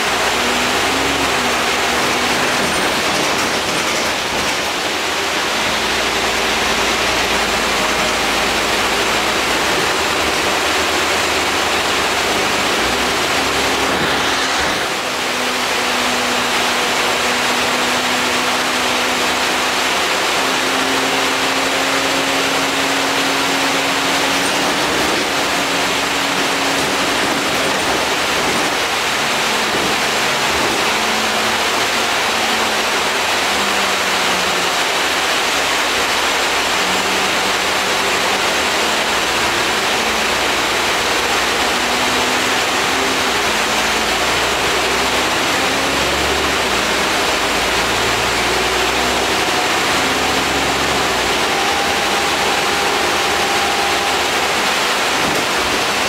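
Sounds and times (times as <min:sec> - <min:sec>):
bus engine hum: 0:00.0 - 0:56.0
road noise: 0:00.0 - 0:56.0.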